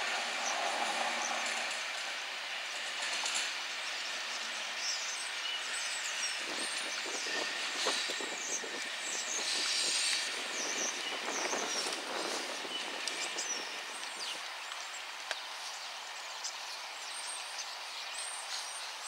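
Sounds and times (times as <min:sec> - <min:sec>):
diesel locomotive rumble: 0:00.0 - 0:16.3
birds chirping: 0:00.0 - 0:19.0.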